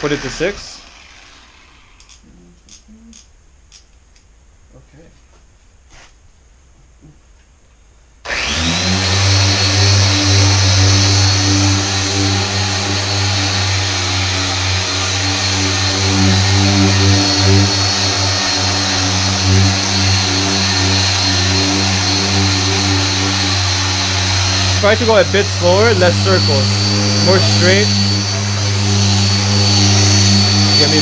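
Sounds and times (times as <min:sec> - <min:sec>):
car polisher whining: 0:00.0 - 0:02.2, 0:08.3 - 0:31.0.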